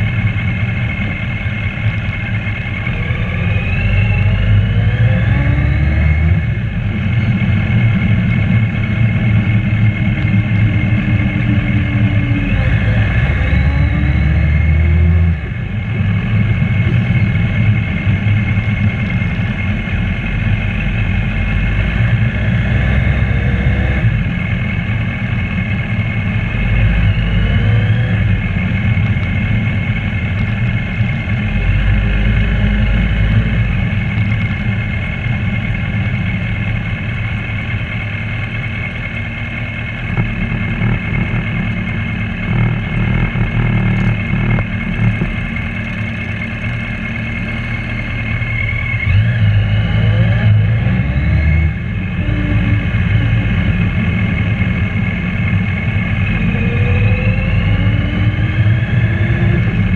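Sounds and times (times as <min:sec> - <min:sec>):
motorcycle engine running: 0:00.0 - 0:59.9
motorcycles accelerating: 0:00.0 - 0:59.9.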